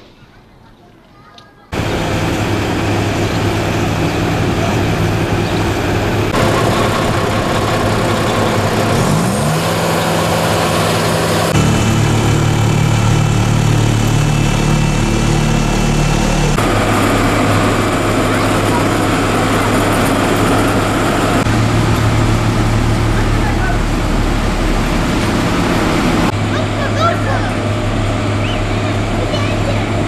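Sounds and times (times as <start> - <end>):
diesel paving machinery engines: 1.7 - 30.0.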